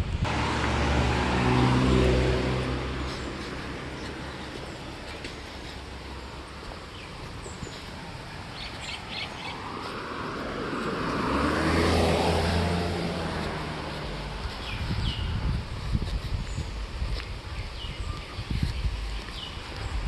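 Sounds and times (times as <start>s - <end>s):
motor vehicle passing: 0.2s - 20.0s
birds chirping: 1.4s - 20.0s.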